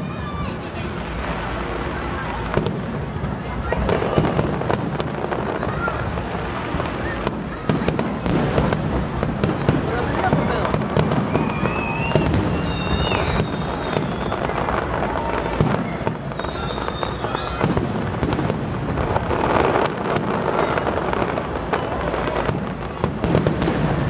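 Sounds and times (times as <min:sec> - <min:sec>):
firework whistles: 0:00.0 - 0:24.0
fireworks cracks and booms: 0:00.0 - 0:24.0.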